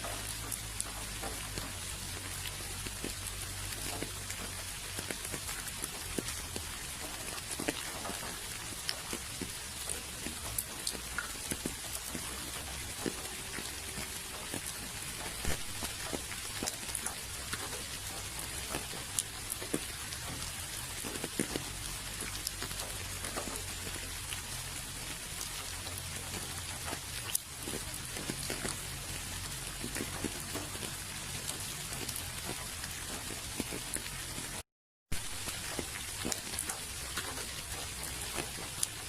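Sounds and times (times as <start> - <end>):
rain hiss: 0.0 - 34.6, 35.2 - 39.0
raindrops pattering: 0.0 - 39.0.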